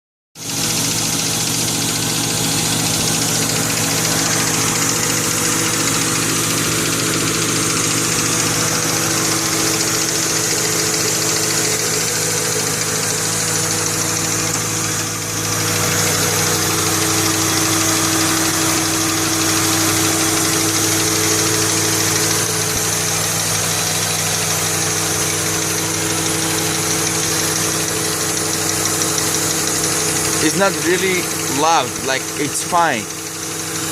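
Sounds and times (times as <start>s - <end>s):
car engine idling: 0.4s - 33.9s
engine knocking: 0.4s - 33.9s.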